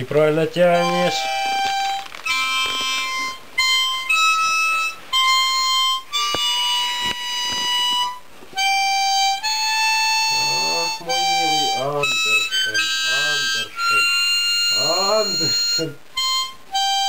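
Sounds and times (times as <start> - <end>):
harmonica held notes: 0.6 - 17.0.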